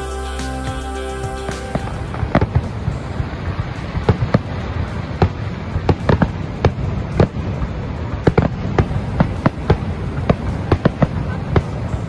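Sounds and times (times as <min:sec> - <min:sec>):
low rumble: 0:00.0 - 0:12.0
fireworks bangs: 0:01.6 - 0:12.0.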